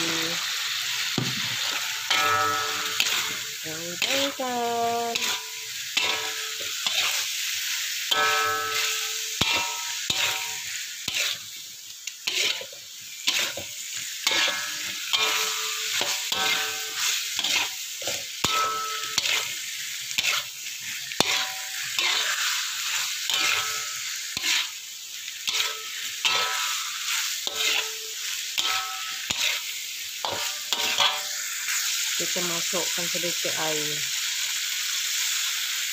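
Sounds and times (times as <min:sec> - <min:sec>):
metal spatula scraping a wok: 0:00.0 - 0:32.1
food sizzling in a wok: 0:00.0 - 0:35.9.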